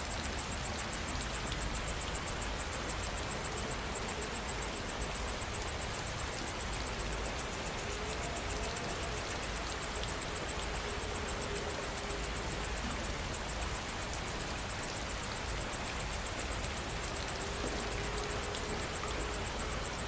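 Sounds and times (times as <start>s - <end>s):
insect chirping: 0.0s - 20.0s
steady rain hiss: 0.0s - 20.0s.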